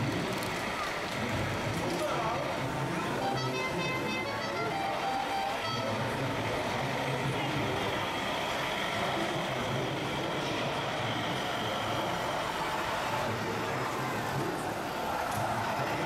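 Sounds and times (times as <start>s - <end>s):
continuous background noise: 0.0s - 16.0s
truck-like engine rumble: 0.0s - 16.0s.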